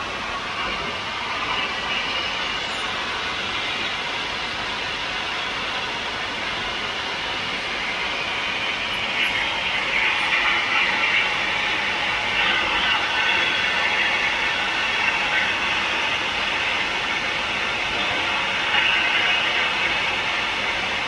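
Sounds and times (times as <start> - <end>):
machine hissing and whirring: 0.0 - 21.0.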